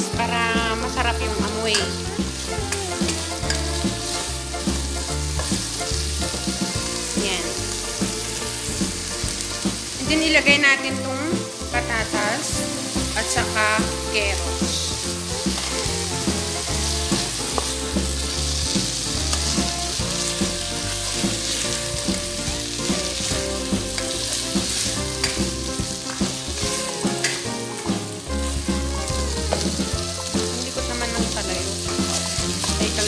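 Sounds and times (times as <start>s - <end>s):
background music: 0.0s - 33.0s
food sizzling in hot oil: 0.0s - 33.0s.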